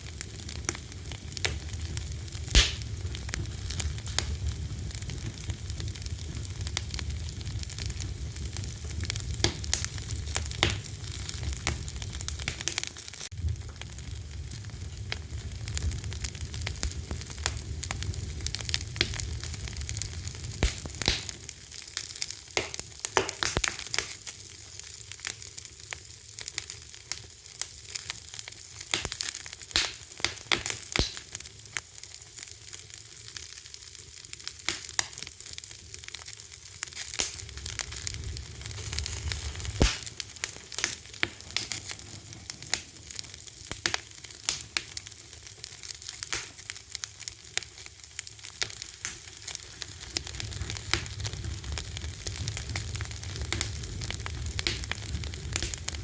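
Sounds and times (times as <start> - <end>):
fire crackling and popping: 0.0 - 56.0
fire hiss: 0.0 - 56.0.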